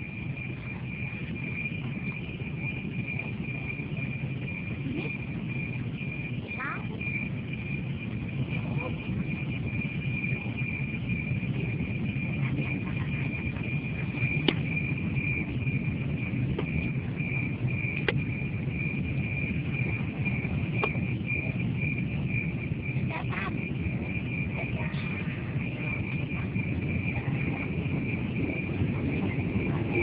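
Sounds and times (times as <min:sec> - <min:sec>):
low rumble: 0:00.0 - 0:30.0
railroad crossing siren: 0:00.0 - 0:30.0.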